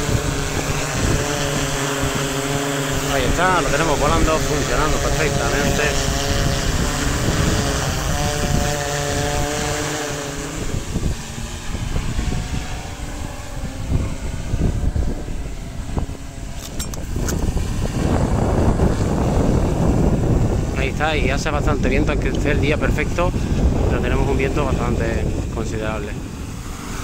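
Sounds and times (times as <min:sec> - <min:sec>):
drone propellers humming: 0:00.0 - 0:27.0
wind rumbling on microphone: 0:00.0 - 0:27.0.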